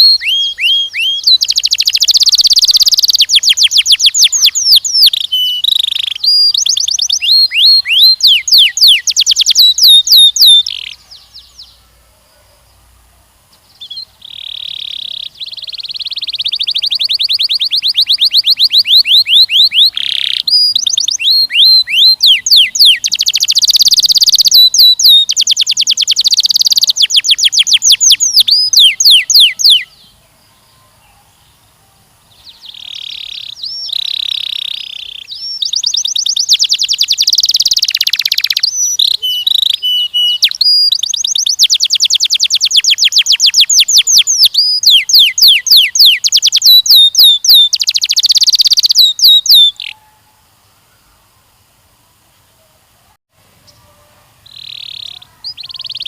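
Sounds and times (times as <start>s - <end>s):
canary singing trills: 0.0s - 12.8s, 13.6s - 50.4s, 53.6s - 56.0s.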